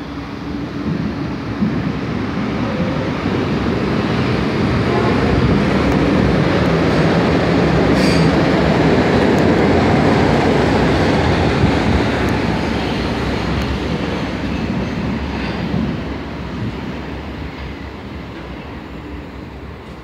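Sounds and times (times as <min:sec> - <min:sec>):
underground train pulling out: 0:00.0 - 0:20.0.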